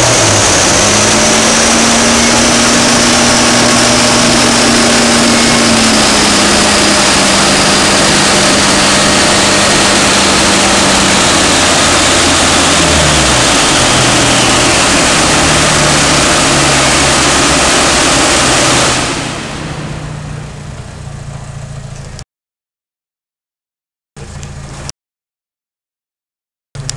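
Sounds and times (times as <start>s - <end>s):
car engine running loud: 0.0s - 22.2s
high turbo whine: 0.0s - 22.2s.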